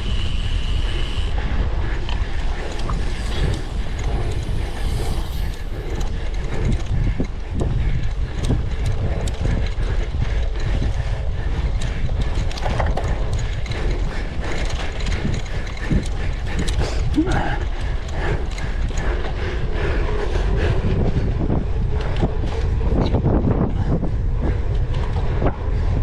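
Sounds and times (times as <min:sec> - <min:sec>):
bike chain clicking and clattering: 0:00.0 - 0:26.0.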